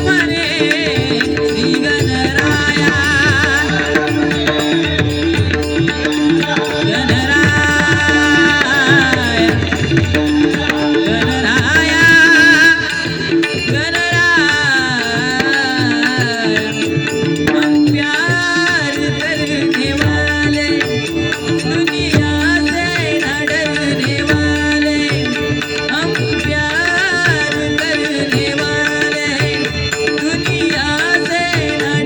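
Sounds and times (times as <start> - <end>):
tabla drumming: 0.0 - 32.0.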